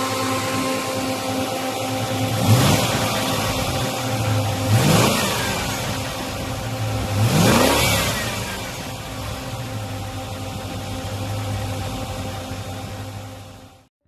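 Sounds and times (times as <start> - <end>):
engine idling: 0.0 - 13.9
engine throttle blips: 0.0 - 13.9.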